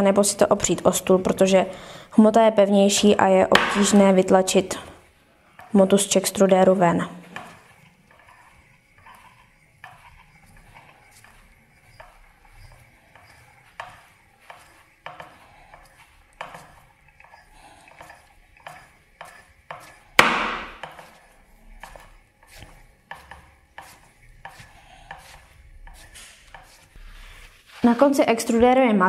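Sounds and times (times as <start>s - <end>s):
clay extruder clicks and scrapes: 2.8s - 28.2s.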